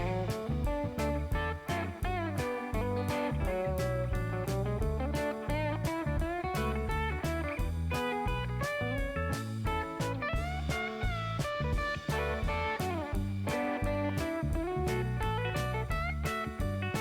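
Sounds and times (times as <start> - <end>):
beat and bass: 0.0 - 17.0
blues electric guitar: 0.0 - 17.0.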